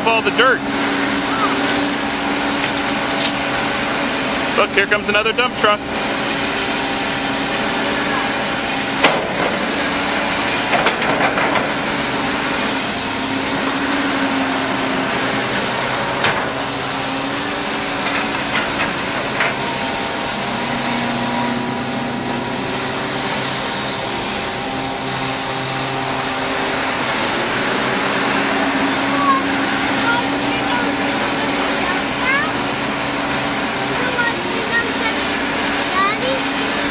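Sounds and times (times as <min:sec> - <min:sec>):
diesel earthmoving machinery running: 0:00.0 - 0:36.9.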